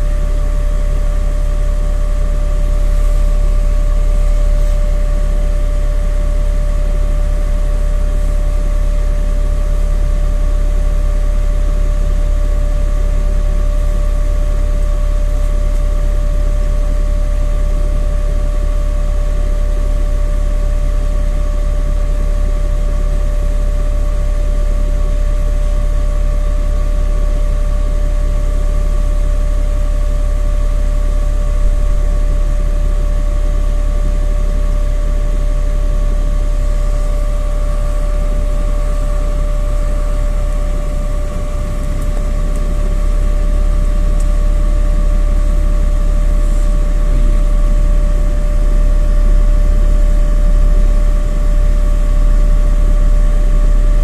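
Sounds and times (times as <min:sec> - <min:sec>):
bus engine rumble: 0:00.0 - 0:54.0
constant whine: 0:00.0 - 0:54.0.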